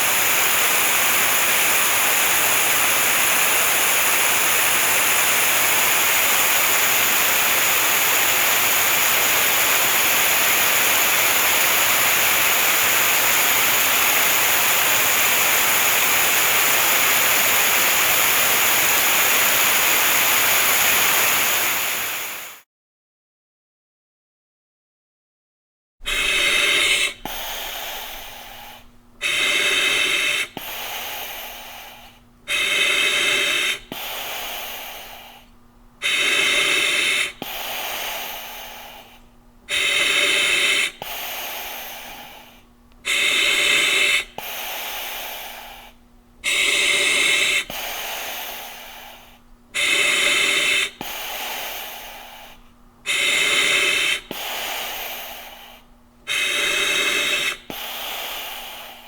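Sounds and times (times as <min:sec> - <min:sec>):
heavy rhythmic breathing: 0:00.0 - 0:22.6, 0:26.0 - 0:59.0.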